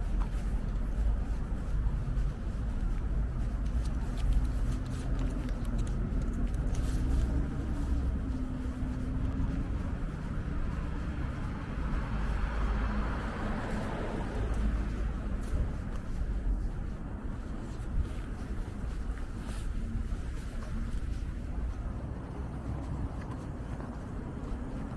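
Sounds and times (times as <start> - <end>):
engine hum: 0.0 - 24.9
traffic passing: 0.0 - 24.9.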